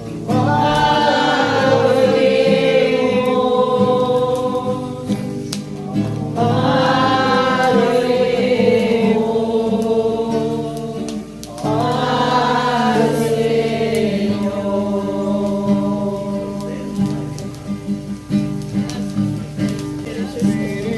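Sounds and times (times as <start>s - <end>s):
church group singing a hymn: 0.0s - 17.8s
sustained accompaniment: 0.0s - 19.8s.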